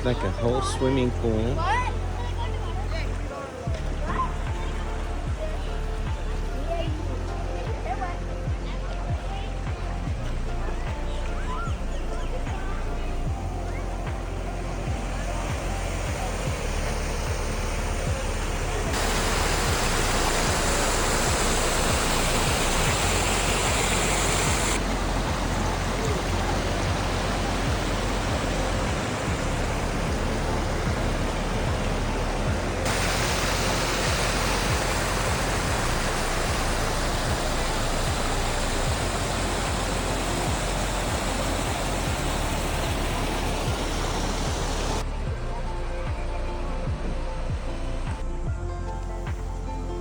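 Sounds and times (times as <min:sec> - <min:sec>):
flowing water rushing: 0:00.0 - 0:50.0.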